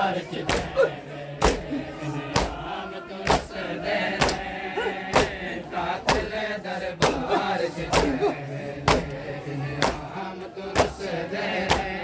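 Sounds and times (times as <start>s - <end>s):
men chanting: 0.0s - 12.0s
men slapping chests in unison: 0.0s - 12.0s.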